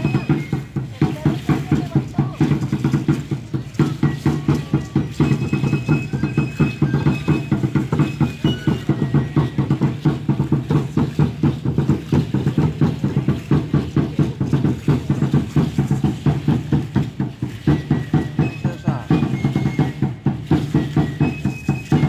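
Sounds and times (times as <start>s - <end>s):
large drum beaten in steady rhythm: 0.0s - 22.0s
seed-pod ankle rattles shaking: 0.0s - 22.0s.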